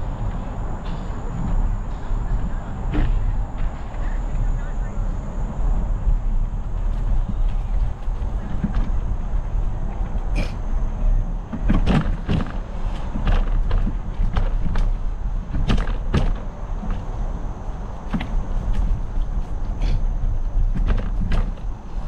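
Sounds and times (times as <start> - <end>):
bike rattling over bumps: 0.0 - 22.0
wind rumble on microphone: 0.0 - 22.0.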